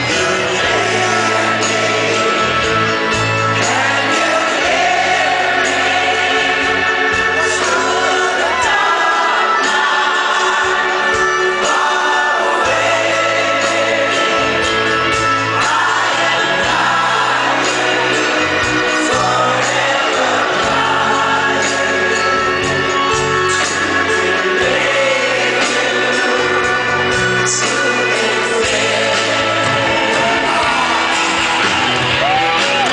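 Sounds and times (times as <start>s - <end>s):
backing singers: 0.0s - 32.9s
live band playing: 0.0s - 32.9s
man singing lead vocal: 0.0s - 32.9s.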